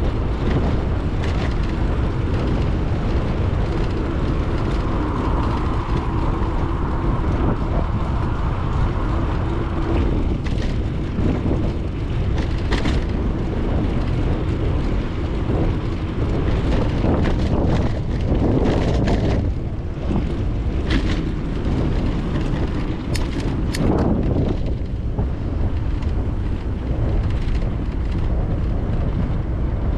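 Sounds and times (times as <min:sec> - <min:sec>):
sharp clicks and rattles: 0:00.0 - 0:29.8
tyre and road rumble: 0:00.0 - 0:29.9
wind buffeting microphone: 0:00.0 - 0:29.9.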